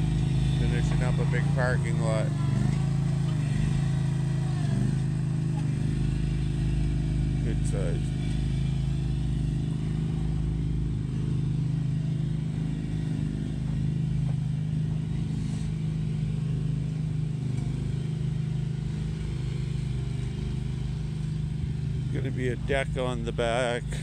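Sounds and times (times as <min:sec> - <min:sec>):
roller engine running: 0:00.0 - 0:24.0.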